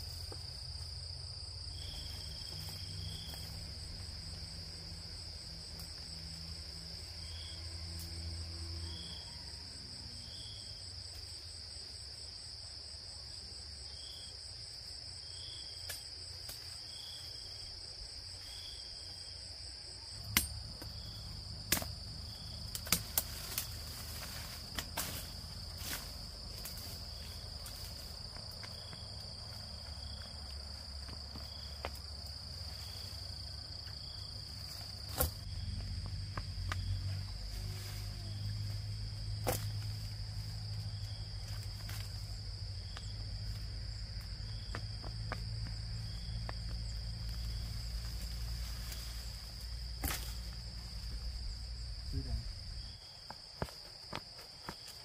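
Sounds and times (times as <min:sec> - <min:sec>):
crickets trilling: 0:00.0 - 0:55.0
faint insect chirp: 0:00.0 - 0:55.0.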